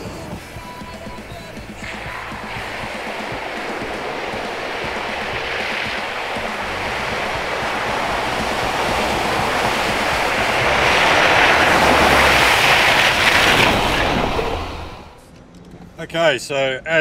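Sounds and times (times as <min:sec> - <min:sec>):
tyres splashing through water: 0:00.0 - 0:15.2
vehicle engine rumble: 0:00.0 - 0:16.2.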